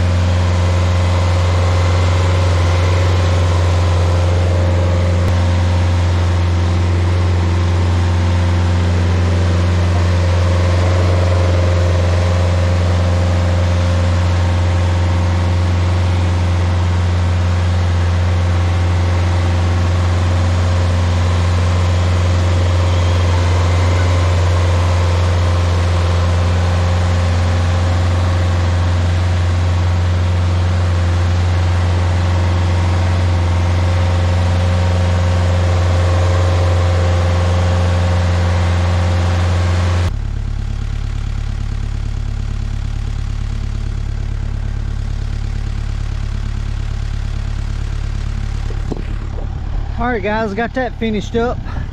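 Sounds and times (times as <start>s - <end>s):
stump grinder engine drone: 0.0s - 51.9s.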